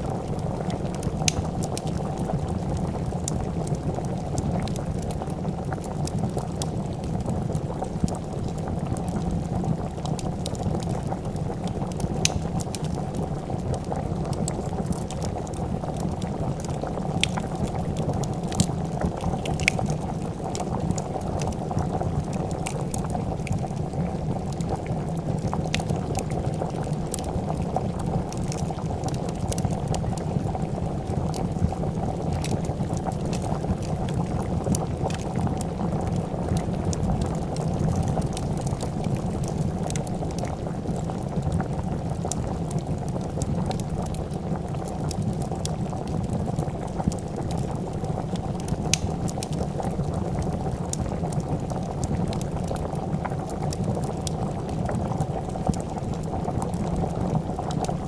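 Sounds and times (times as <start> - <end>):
soup boiling and bubbling: 0.0 - 58.0
wood fire crackling: 0.0 - 58.0.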